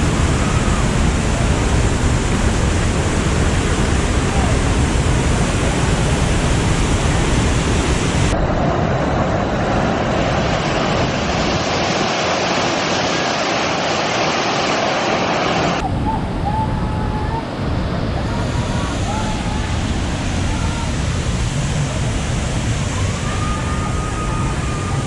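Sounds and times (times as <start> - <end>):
waterfall rushing loudly: 0.0 - 25.0.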